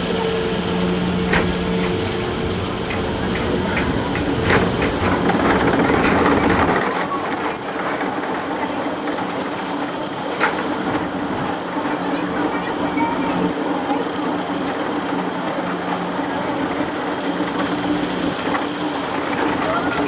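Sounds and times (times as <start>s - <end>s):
ride car humming on track: 0.0s - 20.0s.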